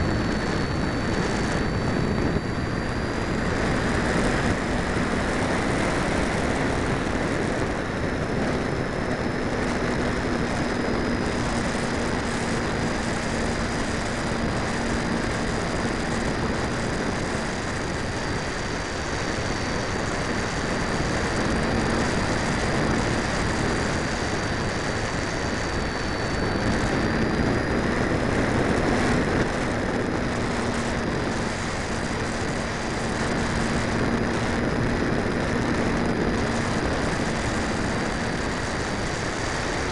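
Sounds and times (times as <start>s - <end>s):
electric motor and propeller buzz: 0.0s - 39.9s
rush of airflow: 0.0s - 39.9s.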